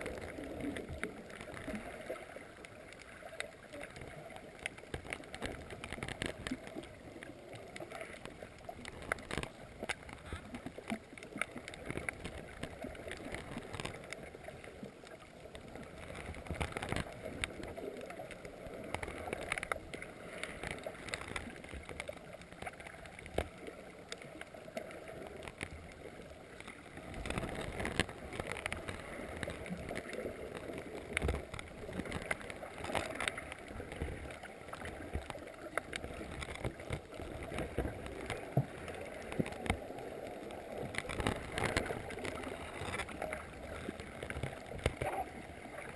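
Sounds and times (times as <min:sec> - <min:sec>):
muffled underwater noise: 0:00.0 - 0:45.9
underwater clicks and crackles: 0:00.0 - 0:45.9.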